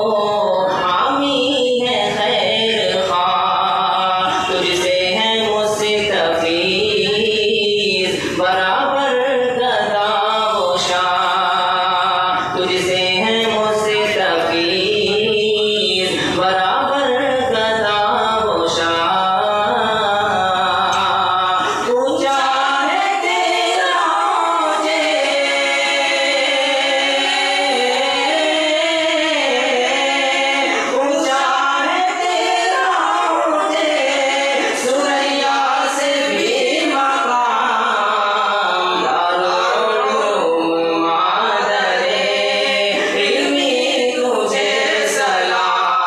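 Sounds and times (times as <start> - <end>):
person singing long gliding notes: 0.0 - 46.0.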